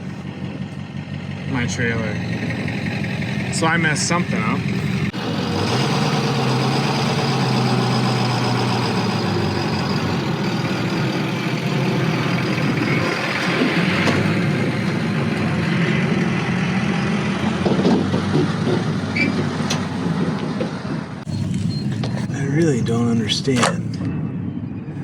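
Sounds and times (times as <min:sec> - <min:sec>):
truck engine idling: 0:00.0 - 0:24.5.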